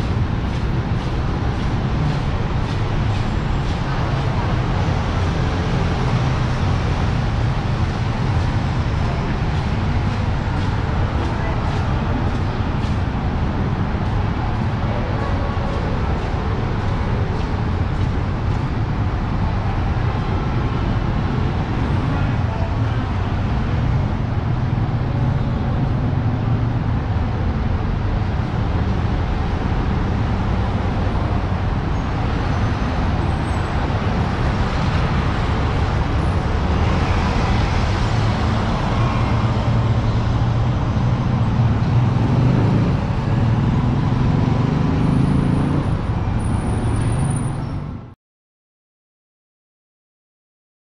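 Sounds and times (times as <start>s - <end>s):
city road traffic rumble: 0.0s - 48.2s.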